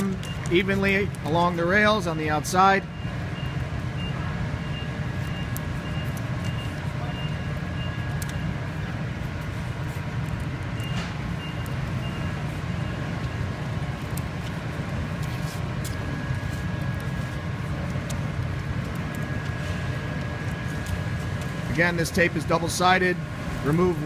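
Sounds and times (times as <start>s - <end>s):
low machinery hum with whine: 0.0s - 24.0s.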